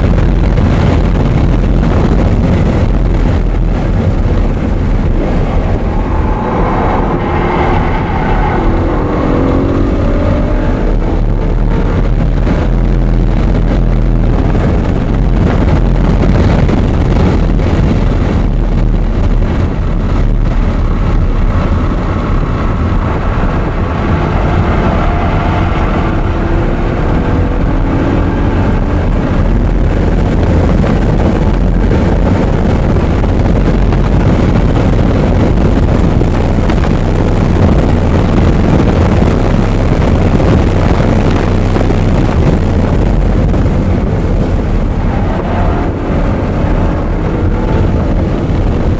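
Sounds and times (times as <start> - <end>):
car engine accelerating: 0.0 - 48.9
wind and road noise: 0.0 - 48.9.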